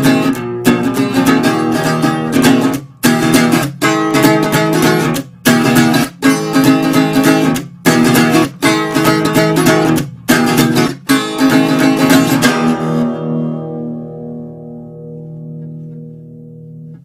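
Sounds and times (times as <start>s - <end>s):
acoustic guitar strummed hard: 0.0s - 17.0s.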